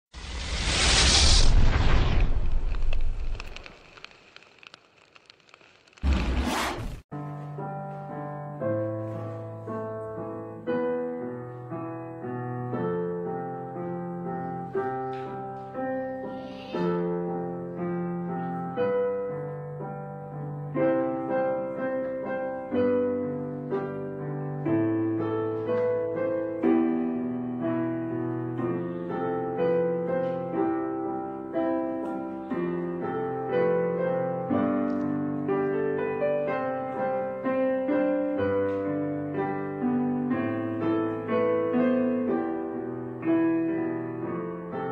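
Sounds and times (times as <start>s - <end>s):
piano music: 7.1s - 44.9s.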